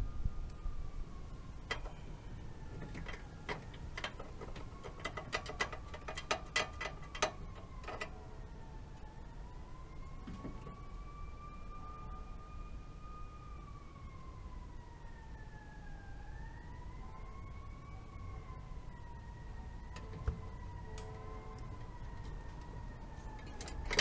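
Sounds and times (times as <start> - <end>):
faint siren wailing: 0.0 - 24.0.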